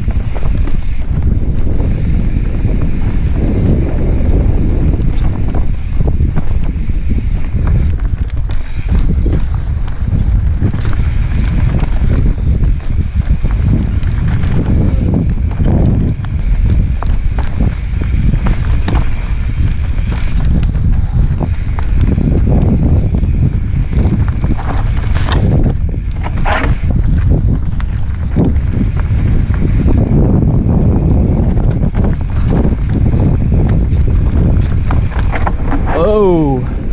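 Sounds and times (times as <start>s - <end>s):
bike clicks and rattles: 0.0s - 36.9s
wind rumble on microphone: 0.0s - 36.9s
tyres rolling over dirt and rock: 7.3s - 36.9s.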